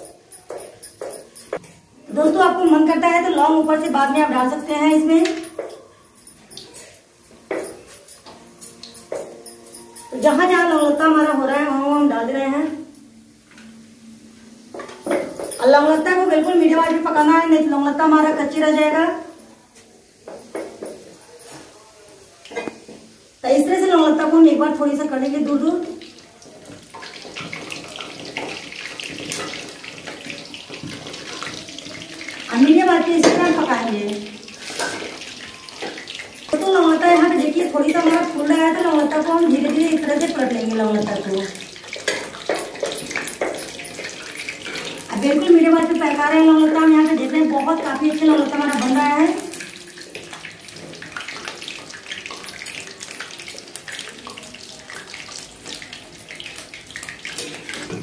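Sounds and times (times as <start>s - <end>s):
oil sizzling with crackles: 0.0s - 58.0s.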